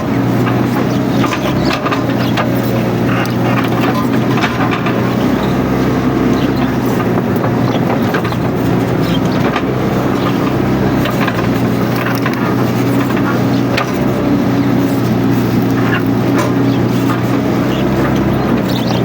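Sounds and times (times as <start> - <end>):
cracks and clanks in brush: 0.0 - 19.0
excavator diesel engine running: 0.0 - 19.0.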